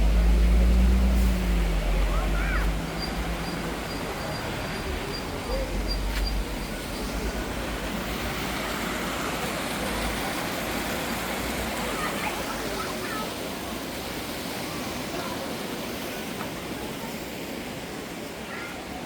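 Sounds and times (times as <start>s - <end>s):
faint voices: 0.0s - 19.0s
waterfall rushing: 0.0s - 19.0s.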